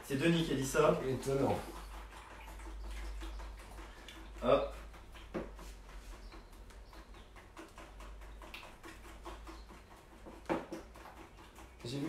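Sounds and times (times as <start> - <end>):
whisk clicking and scraping in bowl: 0.0 - 12.0.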